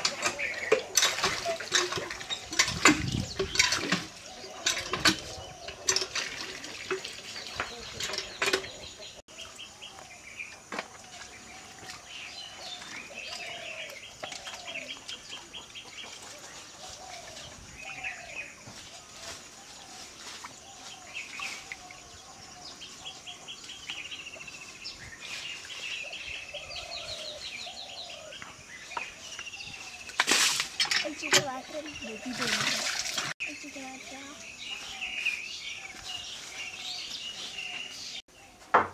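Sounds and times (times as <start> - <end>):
birds trilling: 0.0 - 38.7.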